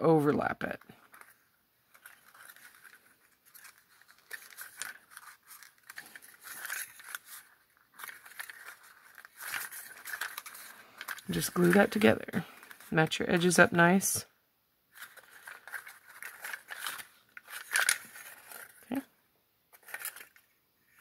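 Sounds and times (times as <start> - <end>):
paper strips rustling and crinkling: 0.0 - 14.2, 14.9 - 19.1, 19.7 - 21.0.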